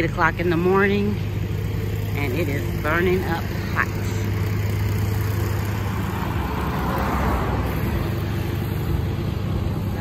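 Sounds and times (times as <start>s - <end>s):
steady low hum: 0.0s - 10.0s
car passing: 1.2s - 10.0s.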